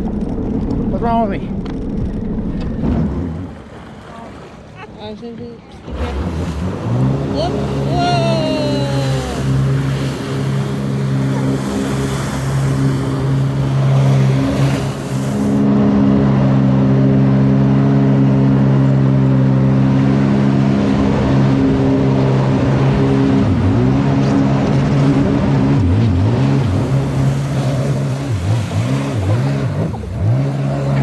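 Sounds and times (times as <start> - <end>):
jet ski engine running: 0.0 - 31.0.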